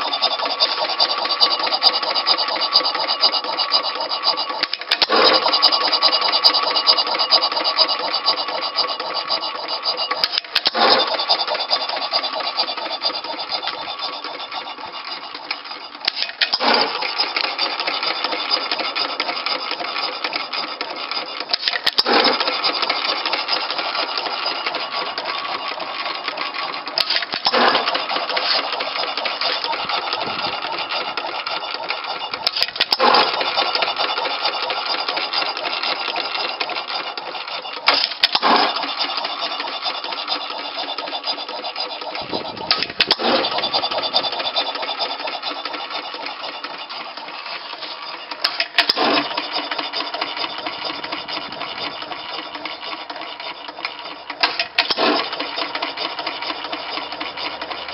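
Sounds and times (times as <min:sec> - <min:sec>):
rapid clatter of valve gear: 0:00.0 - 0:57.9.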